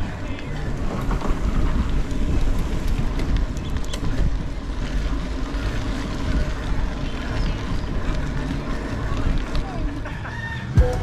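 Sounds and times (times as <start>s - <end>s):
wind buffeting microphone: 0.0s - 10.0s
bicycle frame rattle: 0.0s - 10.1s
bicycle tyre rumble: 0.0s - 11.0s.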